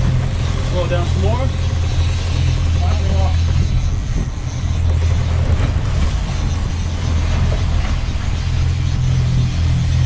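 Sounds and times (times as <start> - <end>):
outboard engines droning: 0.0 - 10.0
wind and water hiss: 0.0 - 10.0.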